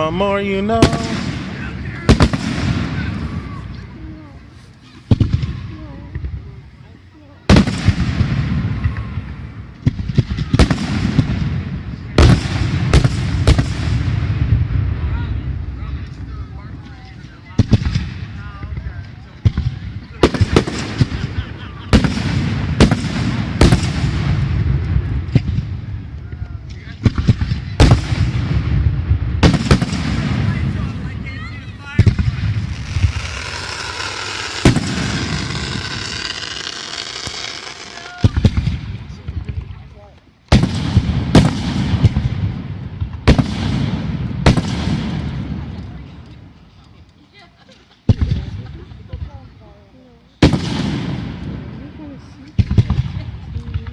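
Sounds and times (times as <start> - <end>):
heavy firework bangs: 0.0 - 4.0, 5.0 - 6.5, 7.5 - 39.8, 40.5 - 45.8, 50.4 - 53.9
small firework cracks: 0.8 - 6.6, 7.5 - 47.2, 50.4 - 53.9.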